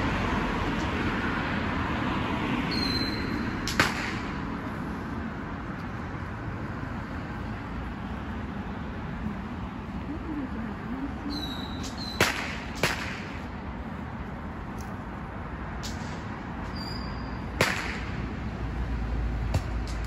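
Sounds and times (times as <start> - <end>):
crowd and traffic rumble: 0.0 - 20.0.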